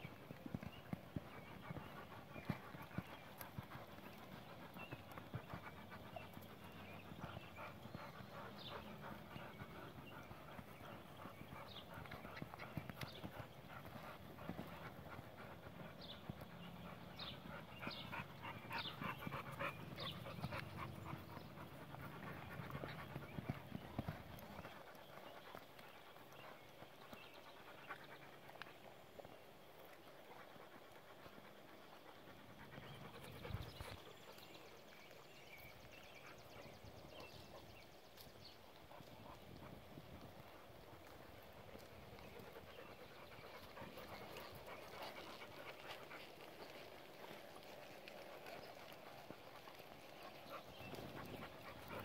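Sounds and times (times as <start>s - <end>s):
horse panting breaths: 0.0s - 52.0s.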